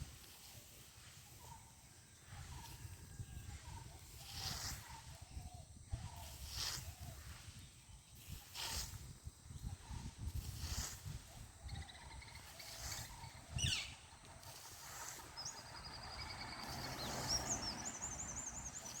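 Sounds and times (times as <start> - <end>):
songbirds trilling and chirping: 0.0 - 19.0.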